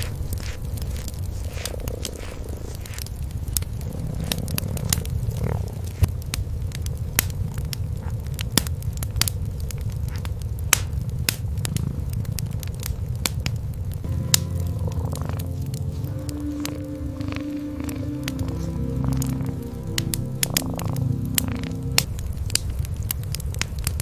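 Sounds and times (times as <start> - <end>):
fire popping: 0.0 - 24.0
wood fire crackling: 0.0 - 24.0.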